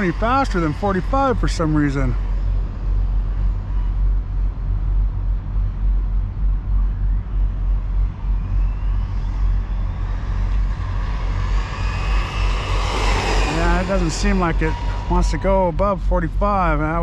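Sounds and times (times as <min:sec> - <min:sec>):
faint electric motor whine: 0:00.0 - 0:17.0
wind rumble on microphone: 0:00.0 - 0:17.0.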